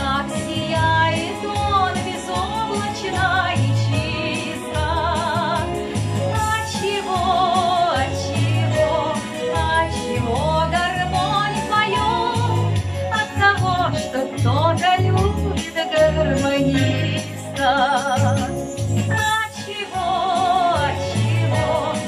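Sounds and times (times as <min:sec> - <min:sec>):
instrumental backing track: 0:00.0 - 0:22.0
woman singing with vibrato: 0:00.0 - 0:22.0.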